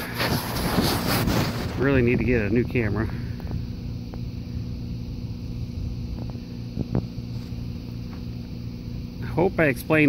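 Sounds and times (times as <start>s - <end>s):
faint wind: 0.0s - 10.0s
steady low hum: 0.0s - 10.0s.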